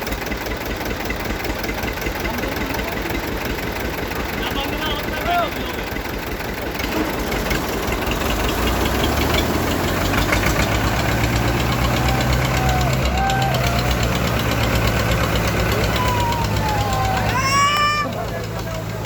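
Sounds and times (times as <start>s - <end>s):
diesel tractor engines straining: 0.0s - 19.0s.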